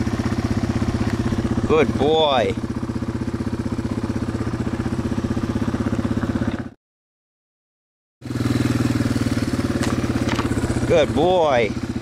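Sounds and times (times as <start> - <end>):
dirt bike engine idling: 0.0 - 6.8, 8.2 - 12.0.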